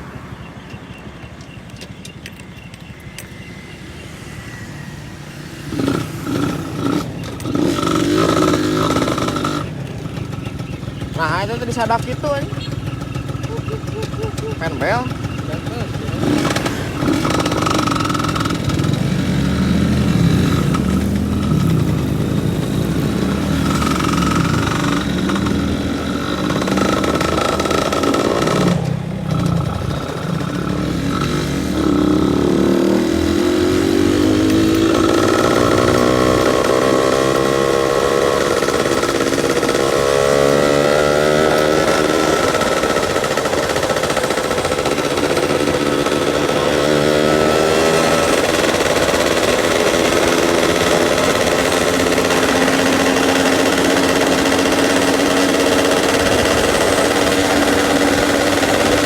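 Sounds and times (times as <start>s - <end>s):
two-stroke engine revving: 4.0s - 59.0s.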